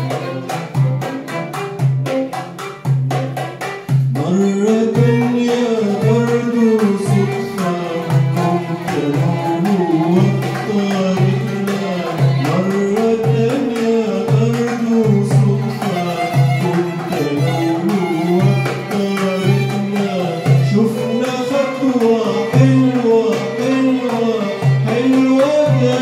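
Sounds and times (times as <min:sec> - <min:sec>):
goblet drum beat: 0:00.0 - 0:26.0
oud: 0:00.0 - 0:26.0
violins: 0:00.0 - 0:26.0
man singing into a microphone: 0:04.1 - 0:26.0.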